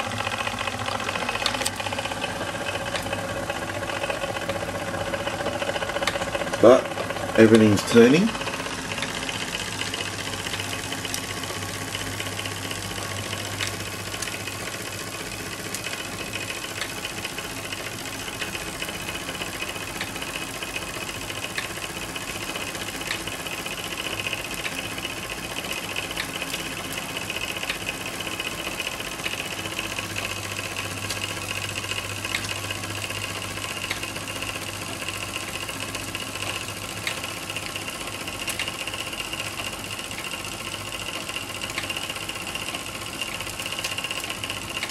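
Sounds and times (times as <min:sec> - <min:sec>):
model steam engine running: 0:00.0 - 0:44.9.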